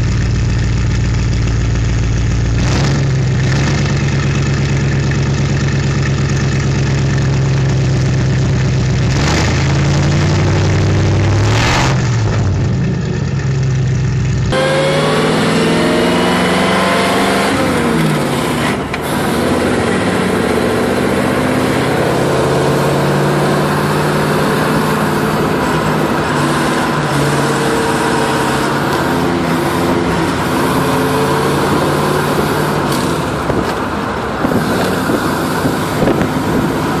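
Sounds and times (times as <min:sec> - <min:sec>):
car engine running: 0:00.0 - 0:37.0
road noise: 0:00.0 - 0:37.0.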